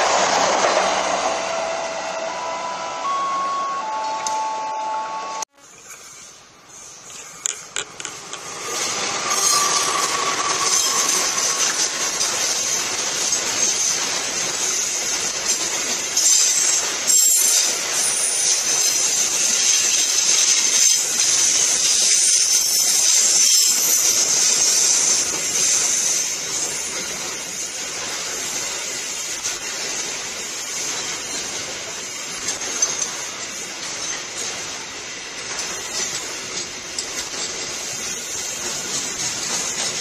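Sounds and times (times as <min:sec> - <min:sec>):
freight train wheels on rails: 0:00.0 - 0:03.2, 0:05.6 - 0:40.0.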